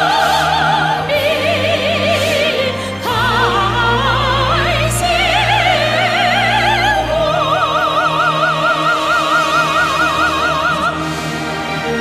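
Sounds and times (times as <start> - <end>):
operatic singing with vibrato: 0.0 - 12.0
orchestral accompaniment: 0.0 - 12.0.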